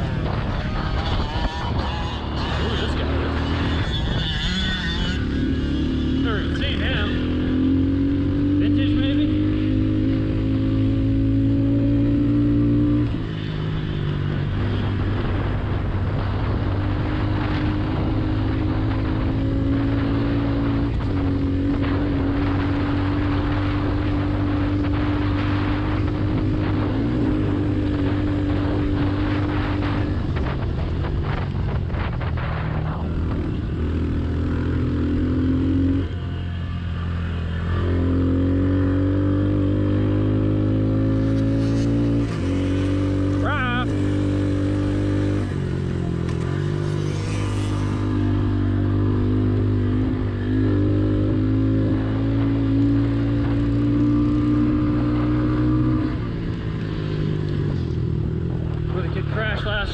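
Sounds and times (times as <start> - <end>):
motorbike engine revving high: 0.0 - 59.9.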